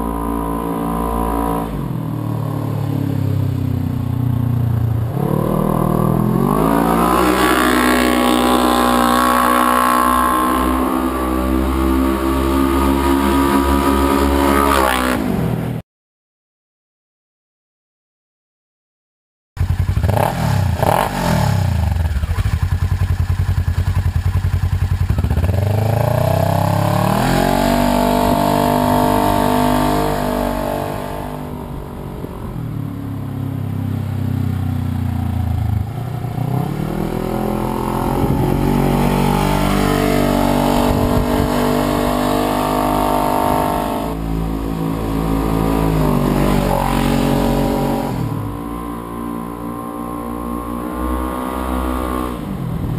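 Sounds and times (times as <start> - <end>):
loud engine revving: 0.0 - 15.8, 19.6 - 22.7, 25.1 - 33.5, 34.4 - 52.9.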